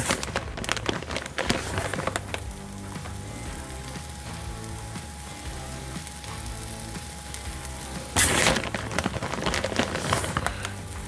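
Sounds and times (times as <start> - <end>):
background music: 0.0 - 11.0
tortilla sizzling in a pan: 0.0 - 11.0.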